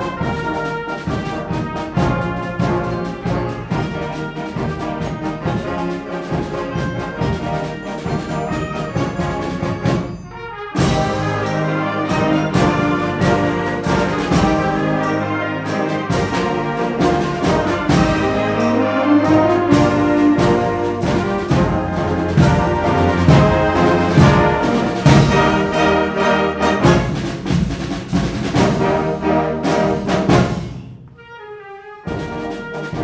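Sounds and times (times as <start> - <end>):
percussion strikes: 0.0 - 31.2
concert band playing: 0.0 - 33.0.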